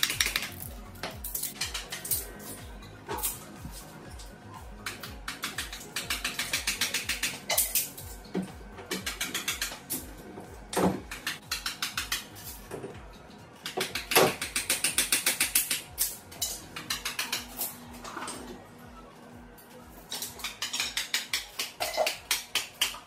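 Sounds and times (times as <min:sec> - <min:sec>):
background music with low beat: 0:00.0 - 0:23.0.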